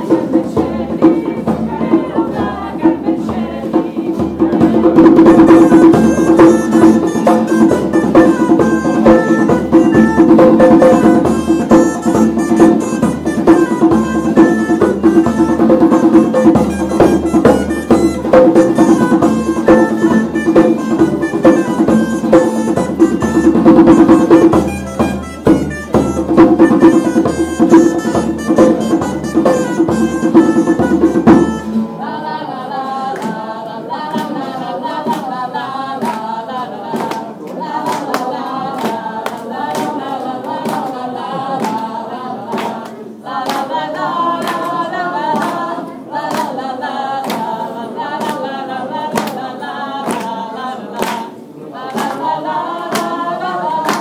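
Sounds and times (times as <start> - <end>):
group singing over a beat: 0.0 - 54.0
live band with drums: 0.0 - 54.0.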